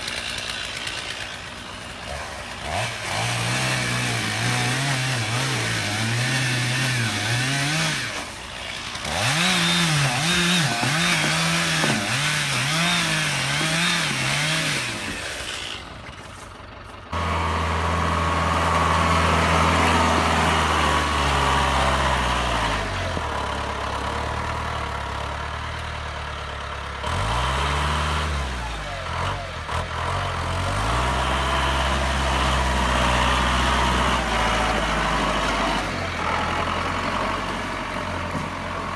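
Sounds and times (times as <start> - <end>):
engine revving: 0.0 - 15.9, 17.1 - 25.2, 26.8 - 38.9
tractor diesel engine running: 0.0 - 38.9.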